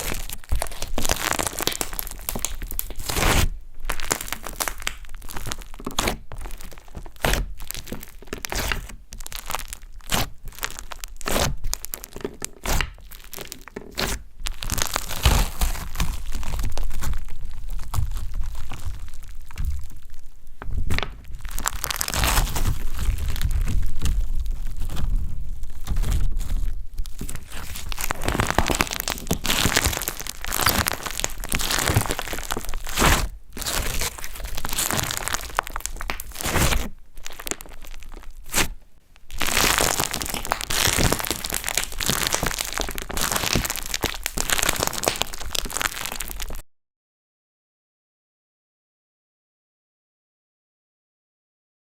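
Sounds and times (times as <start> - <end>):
slime squished by hand: 0.0 - 46.6.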